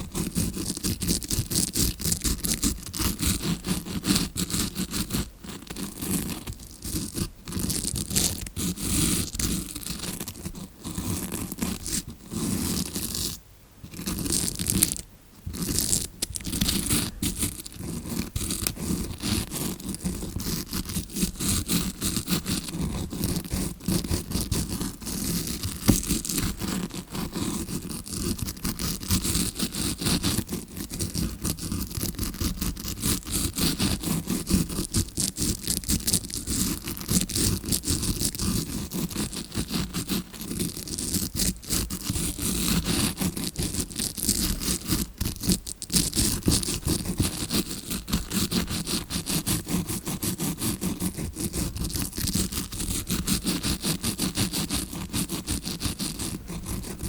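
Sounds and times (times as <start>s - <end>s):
scrubbing brush scratching microphone: 0.0s - 57.0s.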